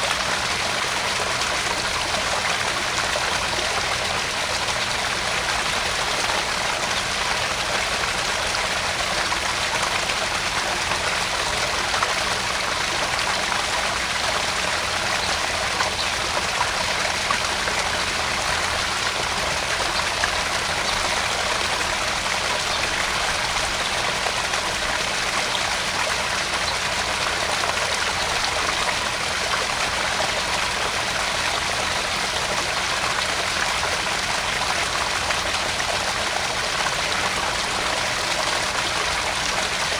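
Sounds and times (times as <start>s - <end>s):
small water splashes: 0.0s - 39.9s
water trickling into pond: 0.0s - 39.9s.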